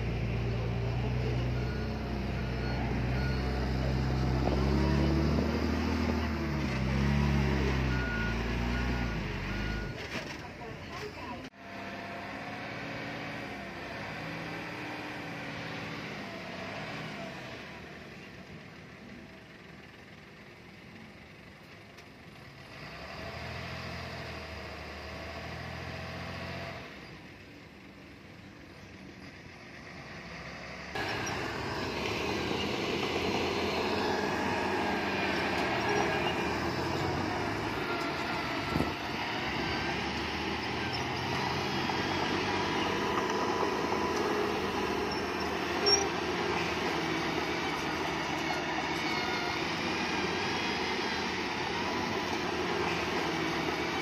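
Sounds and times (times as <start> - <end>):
heavy machine diesel engines: 0.0 - 54.0.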